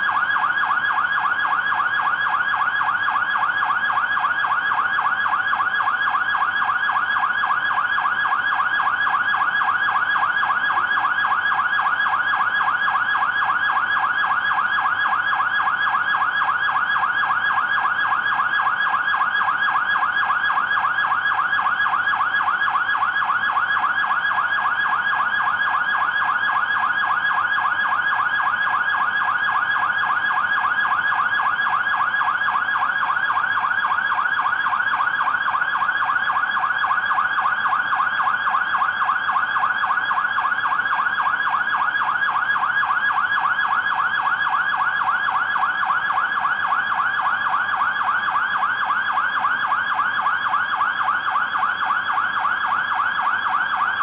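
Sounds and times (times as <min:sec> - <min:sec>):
fire engine sirens wailing: 0:00.0 - 0:54.0.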